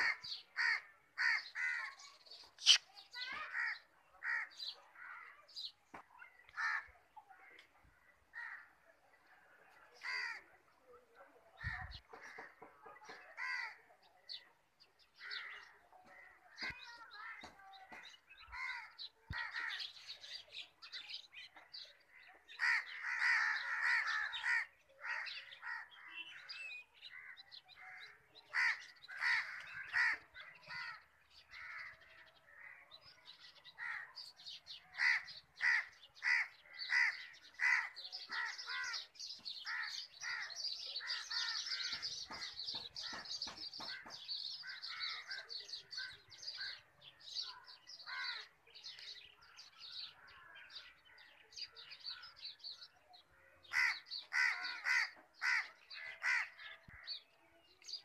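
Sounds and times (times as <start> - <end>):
birds cawing and chirping: 0.0 - 10.6, 11.5 - 58.0
high bird chatter: 0.0 - 58.0.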